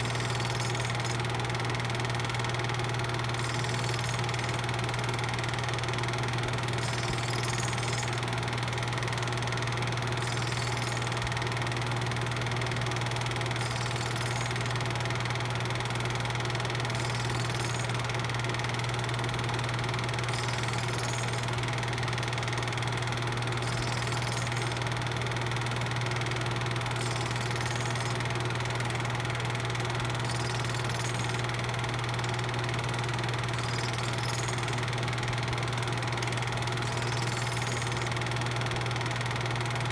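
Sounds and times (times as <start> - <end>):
film projector motor hum: 0.0 - 39.9.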